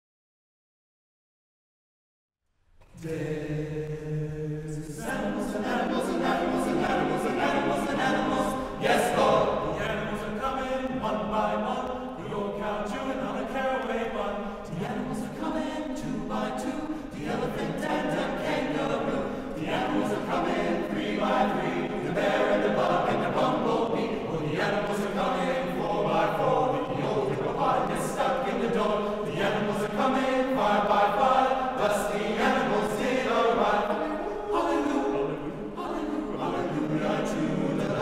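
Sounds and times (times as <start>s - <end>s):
men's chorus singing a cappella: 2.9s - 38.0s.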